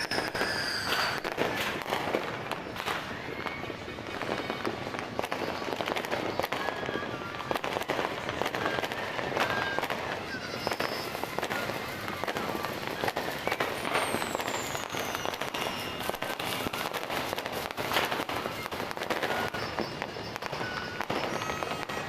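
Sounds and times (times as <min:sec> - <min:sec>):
firework whistle: 0:00.0 - 0:22.0
fireworks banging and crackling: 0:00.0 - 0:22.0.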